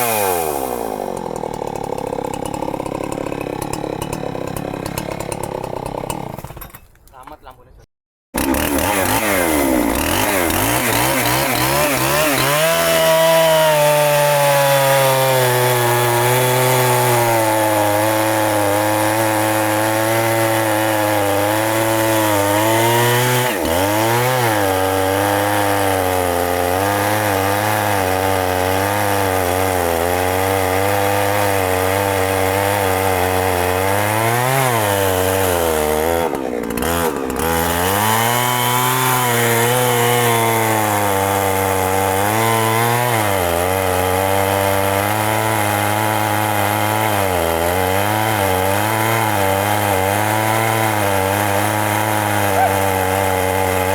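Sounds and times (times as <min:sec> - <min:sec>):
chainsaw cutting through trunk: 0:00.0 - 0:07.1, 0:08.4 - 0:53.9.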